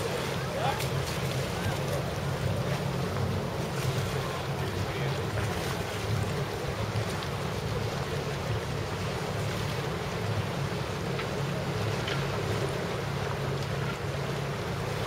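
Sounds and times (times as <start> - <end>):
boat noise: 0.0 - 15.0
harbour water: 0.0 - 15.0.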